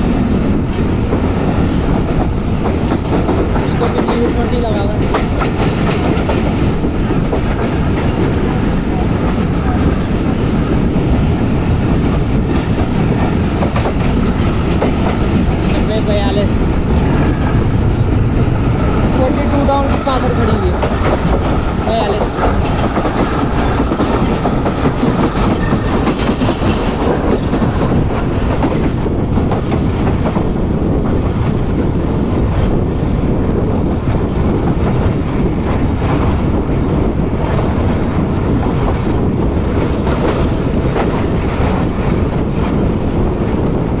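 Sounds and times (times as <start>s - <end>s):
train wheels clattering: 0.0s - 31.6s, 34.4s - 44.0s
train rumble on track: 0.0s - 44.0s.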